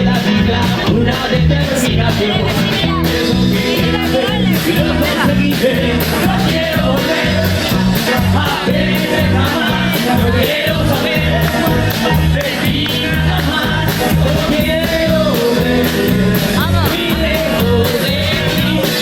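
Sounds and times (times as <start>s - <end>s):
rockabilly band playing live: 0.0s - 19.0s.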